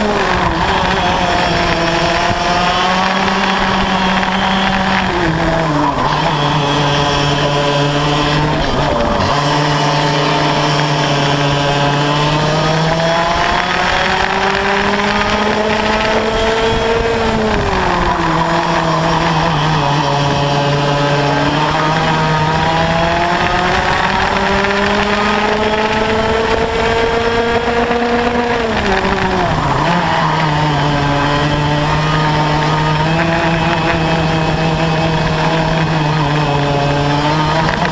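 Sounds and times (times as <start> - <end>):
kart engine buzzing: 0.0 - 37.9.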